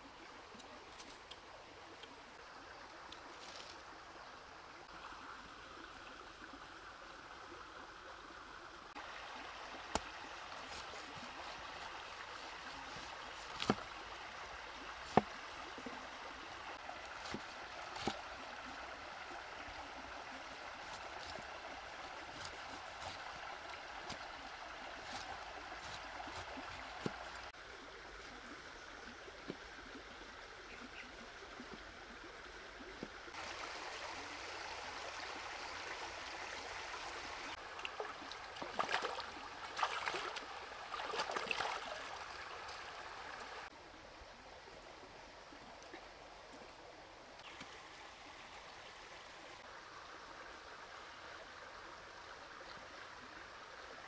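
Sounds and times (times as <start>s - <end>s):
shallow stream running: 0.0s - 54.0s.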